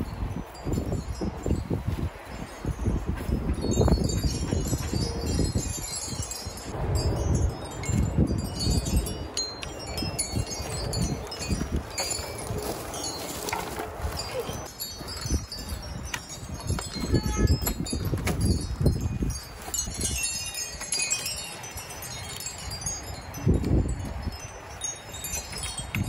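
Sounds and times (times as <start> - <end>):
wind chimes ringing: 0.0 - 26.0
wind rumble on microphone: 0.0 - 26.0.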